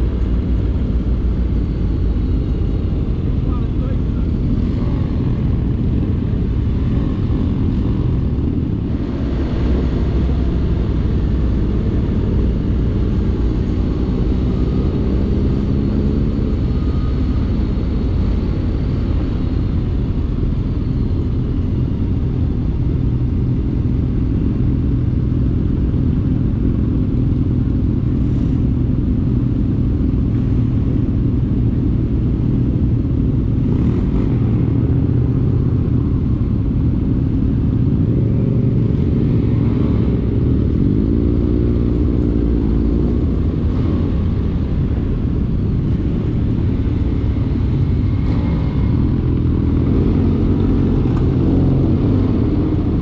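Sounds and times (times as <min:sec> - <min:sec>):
motorcycle engine drone: 0:00.0 - 0:53.0
wind and road rush: 0:00.0 - 0:53.0.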